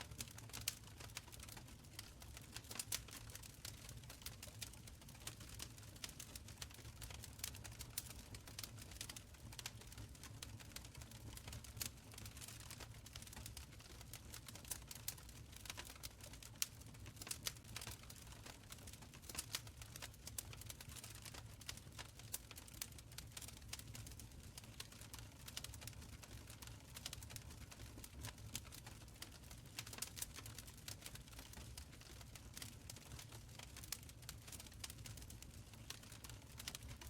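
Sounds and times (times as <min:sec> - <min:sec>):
open fire crackling: 0:00.0 - 0:37.0.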